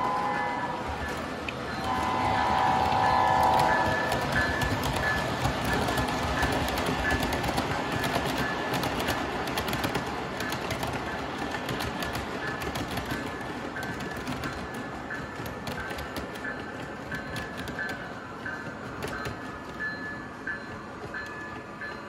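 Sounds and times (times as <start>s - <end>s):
model train rumbling on track: 0.0s - 22.0s.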